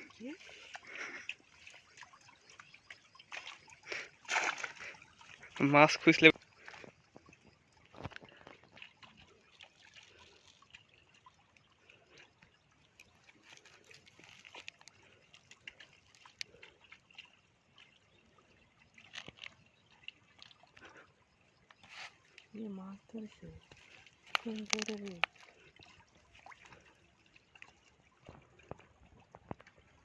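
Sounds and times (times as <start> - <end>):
water splashes and drips: 0.0 - 30.0.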